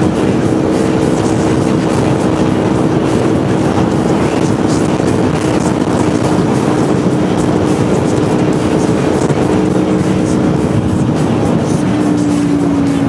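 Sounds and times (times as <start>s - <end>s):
motorcycle engine droning: 0.0s - 13.0s
wind on microphone: 0.0s - 13.0s.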